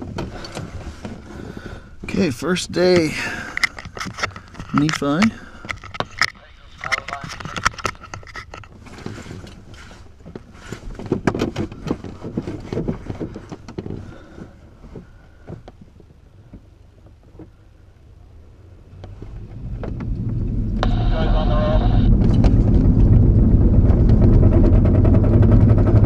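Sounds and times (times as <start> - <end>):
low rumble of tow: 0.0 - 26.0.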